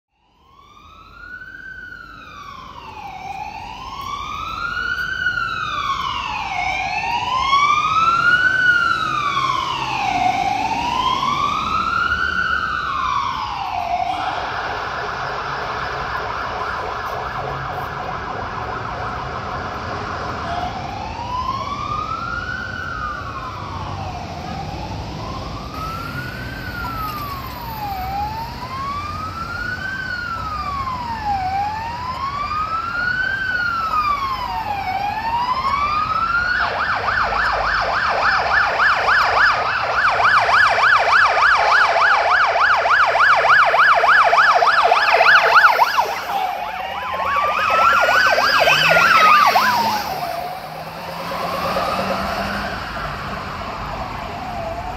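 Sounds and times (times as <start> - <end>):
police siren wailing: 0.1 - 54.9
police siren fast yelp: 0.3 - 54.9.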